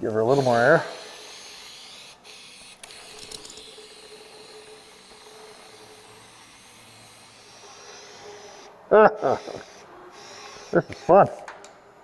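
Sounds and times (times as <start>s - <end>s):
powder spray gun hissing: 0.0s - 11.4s.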